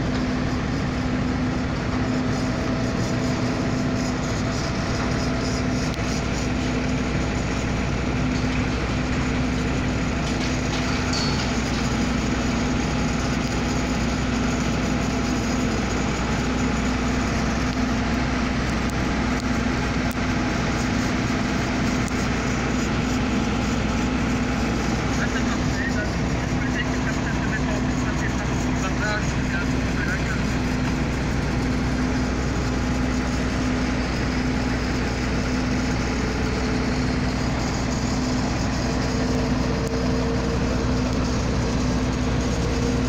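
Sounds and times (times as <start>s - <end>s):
crane diesel engine droning: 0.0s - 43.0s.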